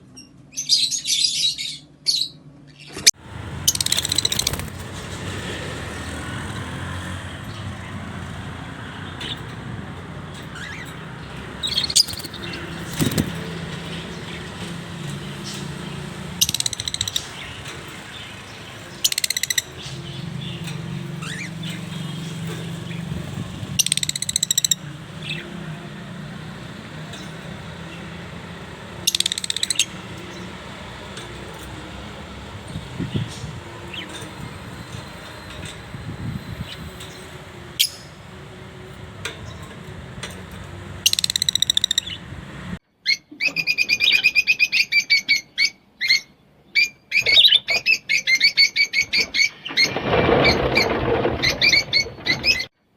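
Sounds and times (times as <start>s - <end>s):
birds chirping shrilly: 0.6s - 52.7s.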